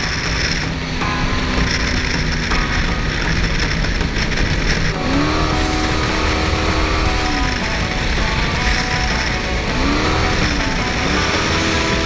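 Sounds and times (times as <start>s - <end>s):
boat engine at speed: 0.0s - 12.0s
water rushing: 0.0s - 12.0s.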